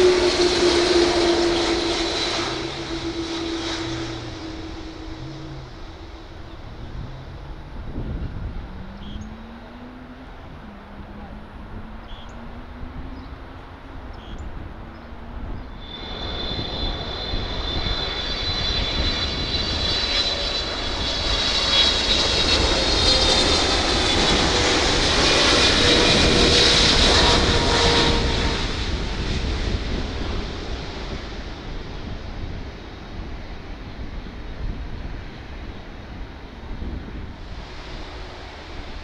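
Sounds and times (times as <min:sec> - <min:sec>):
aircraft rumble on runway: 0:00.0 - 0:39.0
jet engine whine and roar: 0:00.0 - 0:39.0.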